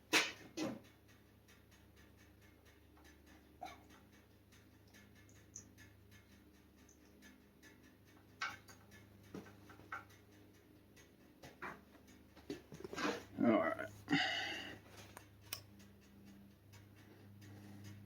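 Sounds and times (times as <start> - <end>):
light clicks and ticks: 0.0 - 18.0.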